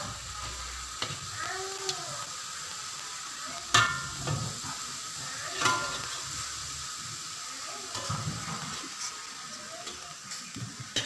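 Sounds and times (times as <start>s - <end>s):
shallots and garlic sizzling in oil: 0.0s - 11.0s.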